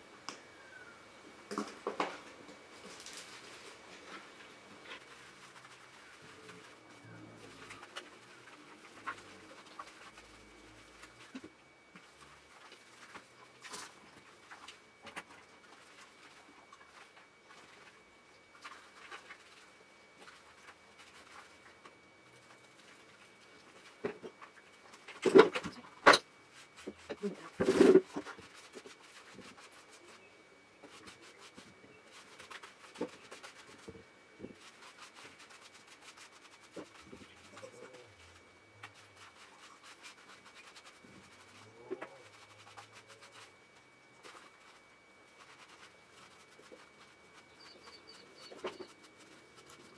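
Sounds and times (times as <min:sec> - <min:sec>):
comb rasping through wet fur: 0:01.6 - 0:49.9.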